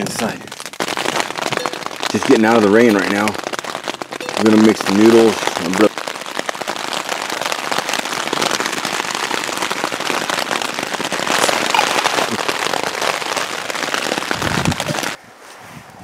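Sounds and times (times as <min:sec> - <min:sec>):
rain pattering on tent fabric: 0:00.0 - 0:15.2.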